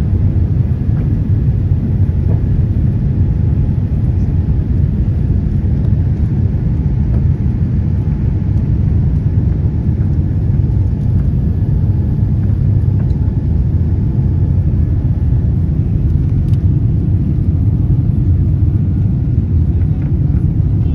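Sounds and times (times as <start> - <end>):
aeroplane engines roaring: 0.0 - 20.9.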